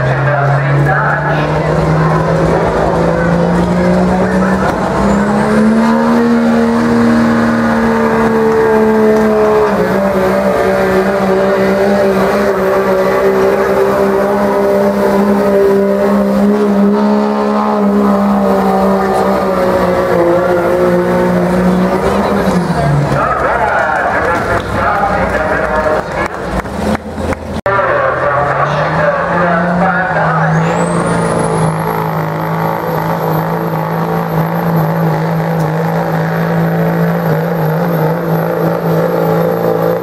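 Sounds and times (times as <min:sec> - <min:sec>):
diesel engine at high revs: 0:00.0 - 0:40.0
tires spinning in dirt: 0:00.0 - 0:40.0.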